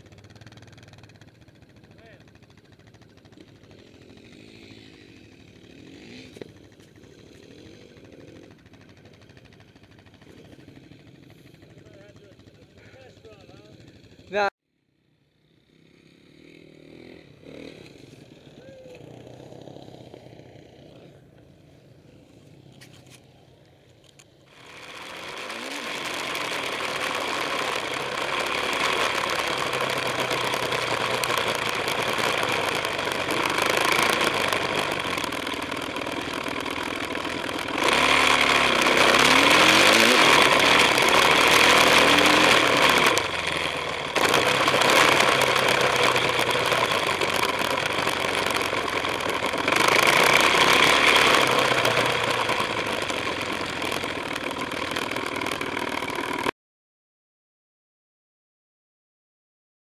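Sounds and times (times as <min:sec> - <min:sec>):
dirt bike engine revving: 0:00.0 - 0:14.5, 0:15.3 - 0:23.8, 0:24.4 - 0:56.5.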